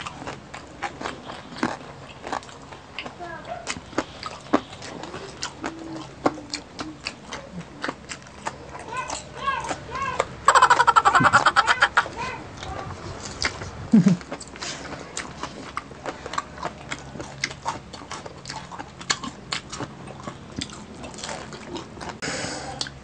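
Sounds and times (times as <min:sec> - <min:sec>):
chewing and mouth sounds: 0:00.0 - 0:23.0.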